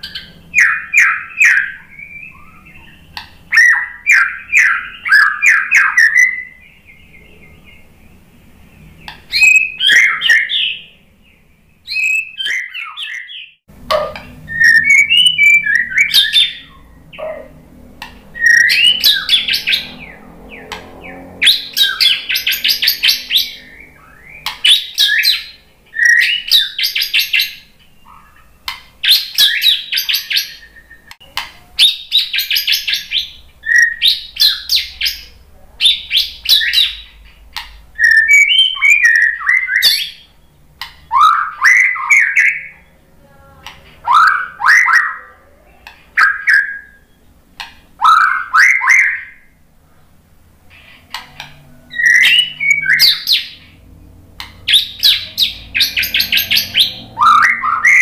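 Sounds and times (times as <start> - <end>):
bird singing trilled phrases: 0.0 - 47.4, 48.0 - 49.6, 50.7 - 58.0.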